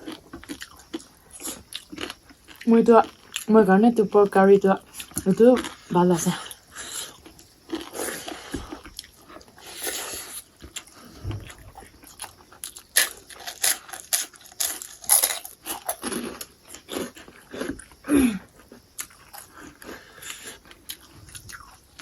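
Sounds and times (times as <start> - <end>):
person chewing food: 0.0 - 3.5, 4.9 - 22.0.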